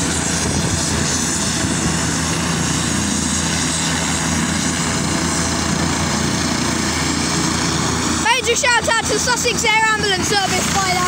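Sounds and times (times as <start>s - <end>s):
helicopter turbines and rotor running: 0.0s - 11.0s.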